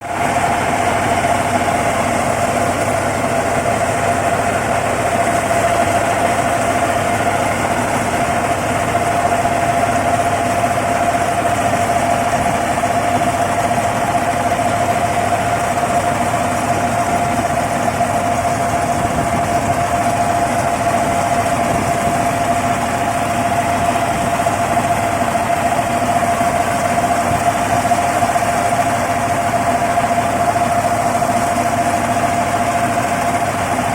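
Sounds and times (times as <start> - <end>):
combine harvester engine drone: 0.0 - 33.9
steady whining tone: 0.0 - 33.9.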